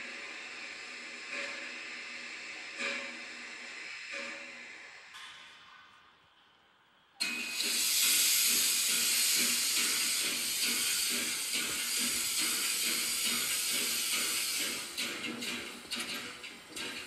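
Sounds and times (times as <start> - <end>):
recorded steam hiss: 0.0 - 6.6, 7.2 - 17.0.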